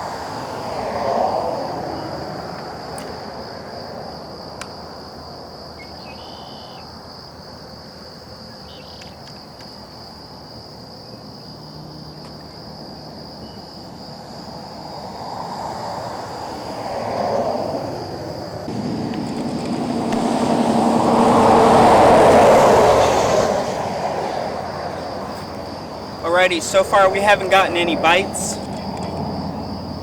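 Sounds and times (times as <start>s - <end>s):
high-pitched insect chorus: 0.0s - 19.4s, 20.3s - 30.0s
distant road traffic: 0.0s - 30.0s.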